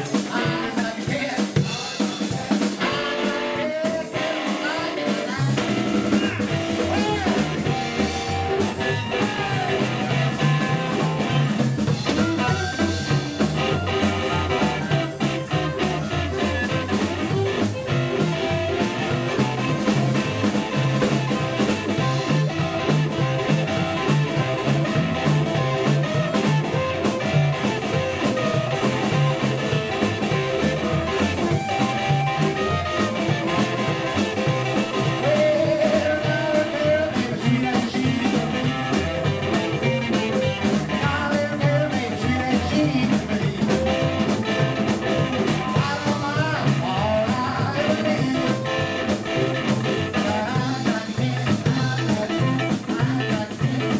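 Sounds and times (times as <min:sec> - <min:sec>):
drums: 0:00.0 - 0:53.9
electric guitar: 0:00.0 - 0:53.9
harmonica: 0:02.7 - 0:53.2
upright double bass: 0:05.3 - 0:53.9.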